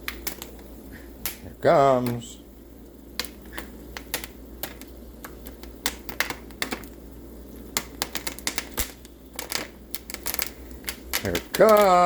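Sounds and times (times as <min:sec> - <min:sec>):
popcorn popping: 0:00.0 - 0:12.0.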